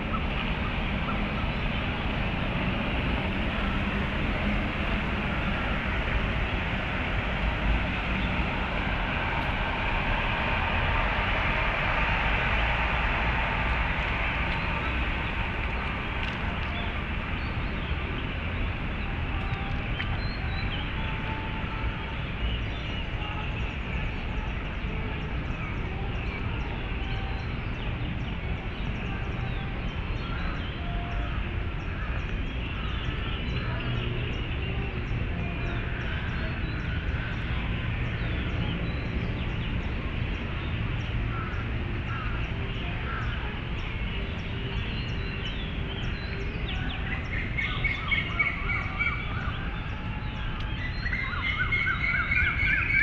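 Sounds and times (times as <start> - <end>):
city traffic rumble: 0.0 - 53.0.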